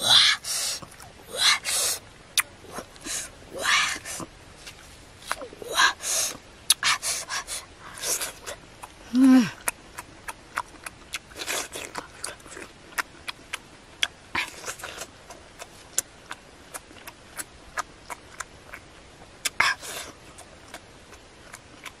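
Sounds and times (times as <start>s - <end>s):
biting and sucking fruit: 0.0s - 22.0s
wet chewing and lip-smacking: 0.2s - 22.0s.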